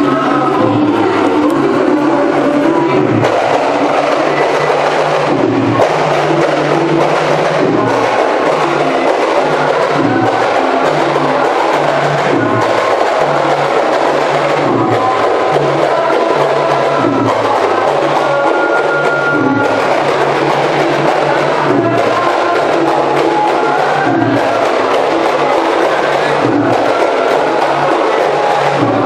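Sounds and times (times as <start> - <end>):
hand percussion: 0.0 - 29.0.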